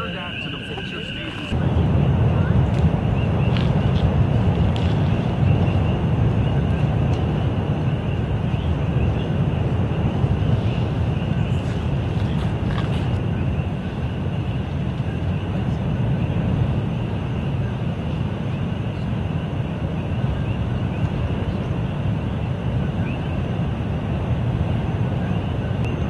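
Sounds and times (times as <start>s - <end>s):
lava fountain rumbling: 0.8s - 26.0s.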